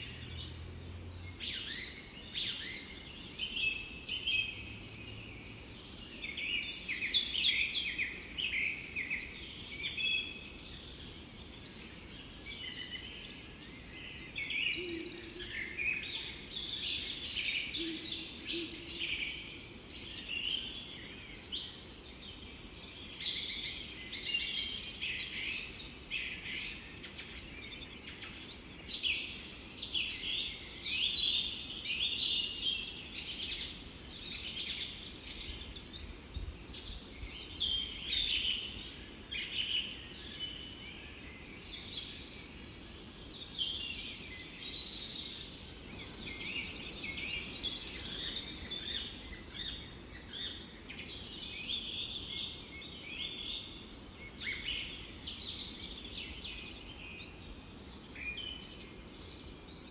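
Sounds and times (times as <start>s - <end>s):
songbirds singing chorus: 0.0s - 59.9s.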